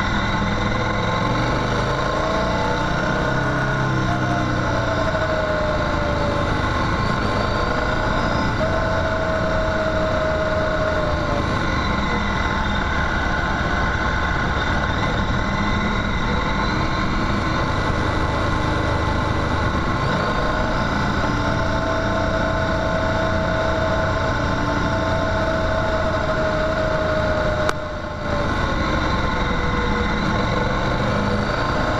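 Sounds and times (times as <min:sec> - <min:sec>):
motorcycle engine running: 0:00.0 - 0:31.9
road noise on gravel: 0:00.0 - 0:31.9
wind: 0:00.0 - 0:31.9.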